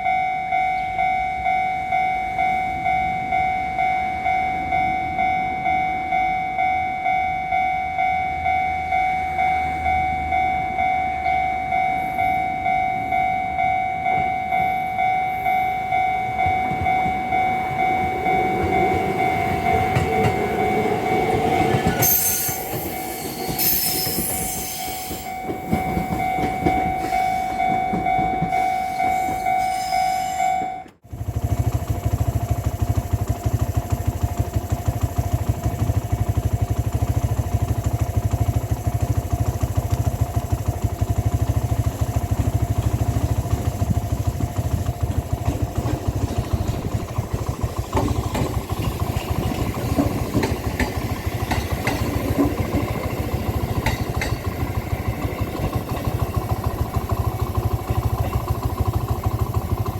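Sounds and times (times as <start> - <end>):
crossing bell ringing: 0.0 - 59.9
train passing: 0.0 - 59.9.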